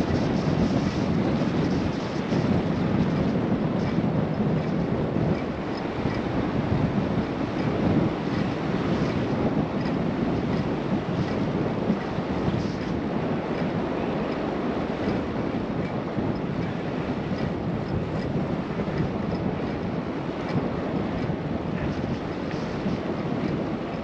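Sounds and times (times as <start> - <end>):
wind rushing on microphone: 0.0 - 24.0.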